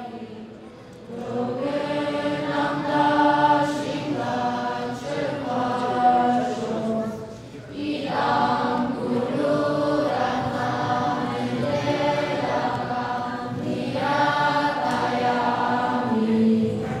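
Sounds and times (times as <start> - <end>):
children chanting prayers: 0.0 - 17.0.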